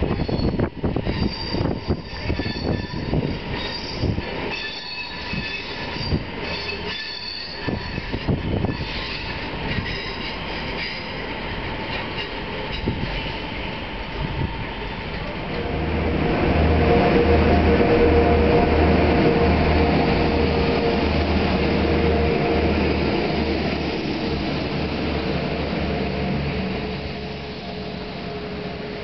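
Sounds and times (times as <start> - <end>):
diesel train engine throb: 3.0 - 29.0.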